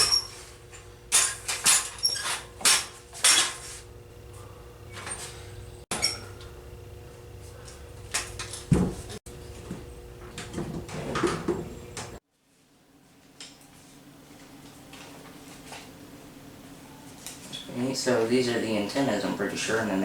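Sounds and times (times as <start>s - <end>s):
faint steady hum: 3.7s - 20.0s.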